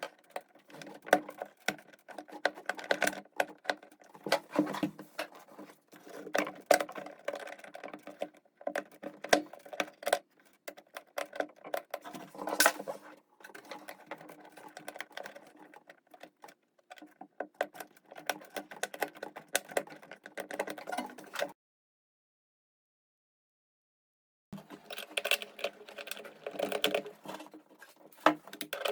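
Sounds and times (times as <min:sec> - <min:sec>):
tools clicking and knocking: 0:00.0 - 0:21.5, 0:24.6 - 0:28.9.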